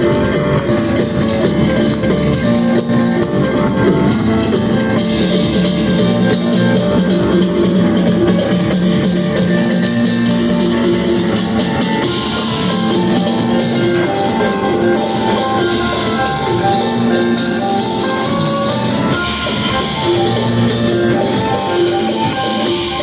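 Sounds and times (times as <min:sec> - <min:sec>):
drum kit and cymbals: 0:00.0 - 0:23.0
live band playing: 0:00.0 - 0:23.0.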